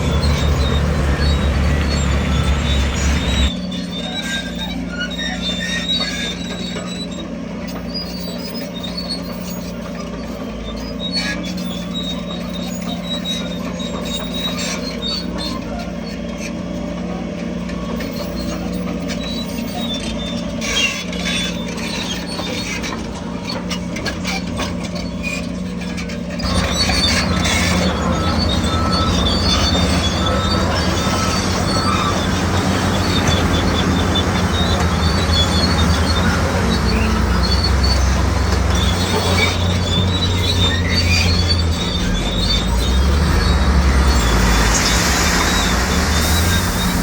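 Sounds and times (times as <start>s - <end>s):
diesel engine running: 0.0s - 4.0s, 5.8s - 47.0s
metallic clanks and squeaks: 0.0s - 47.0s.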